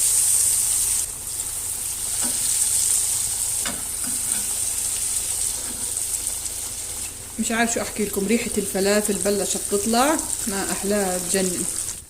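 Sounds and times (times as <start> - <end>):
patties sizzling in hot oil: 0.0 - 12.0.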